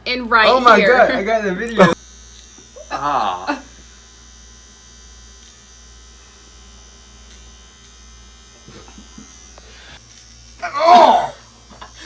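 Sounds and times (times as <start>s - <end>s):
electrical hum and buzz: 1.7s - 12.0s.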